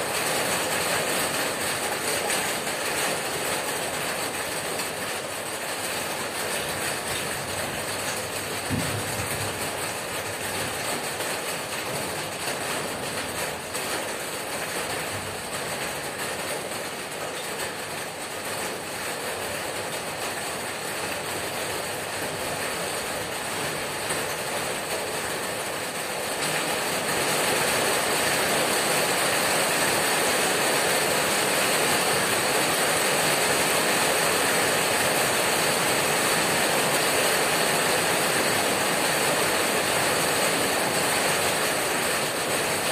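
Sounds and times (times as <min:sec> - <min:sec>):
heavy rain on a tin roof: 0:00.0 - 0:42.9.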